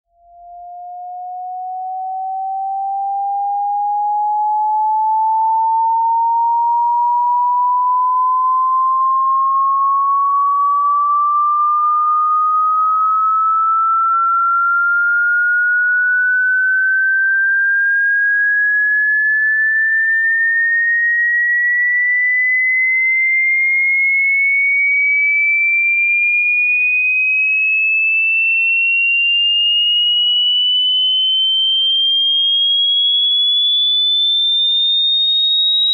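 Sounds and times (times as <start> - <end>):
electronic sine tone sweeping upward: 0.1 - 35.9.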